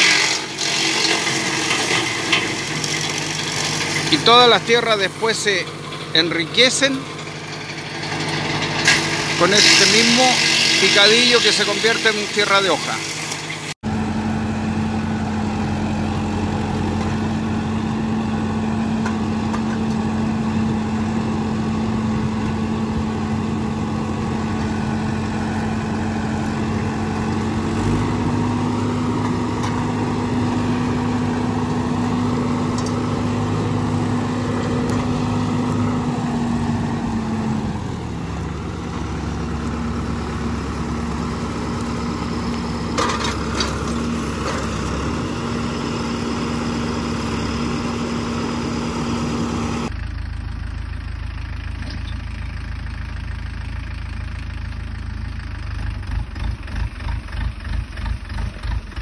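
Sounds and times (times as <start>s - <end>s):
diesel tractor engine under load: 0.0s - 59.0s.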